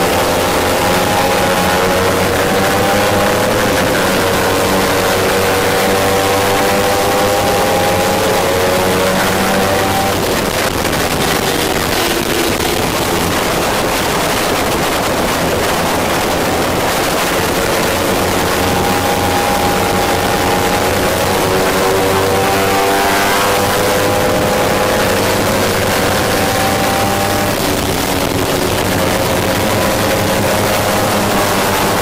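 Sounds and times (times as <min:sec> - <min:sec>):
motorcycle engine running hard: 0:00.0 - 0:32.0
wind noise: 0:00.0 - 0:32.0.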